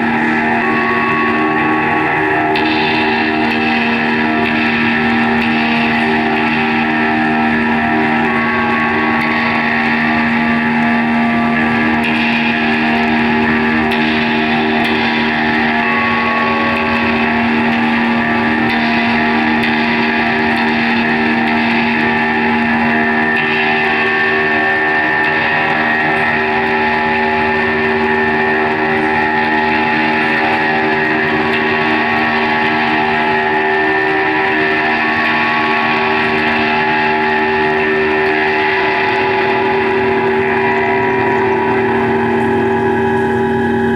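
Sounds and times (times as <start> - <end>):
drone music with long held tones: 0.0 - 43.9.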